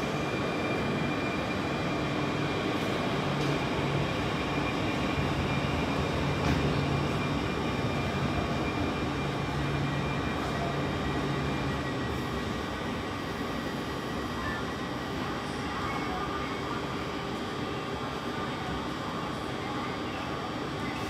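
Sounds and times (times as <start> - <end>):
echoing station hall noise: 0.0 - 21.0
electric train equipment hum: 0.0 - 21.0.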